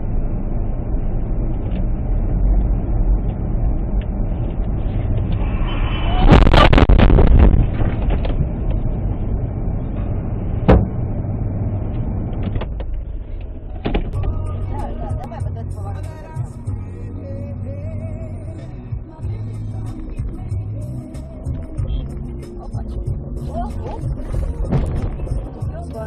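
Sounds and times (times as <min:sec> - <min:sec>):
road and engine rumble in car: 0:00.0 - 0:26.0.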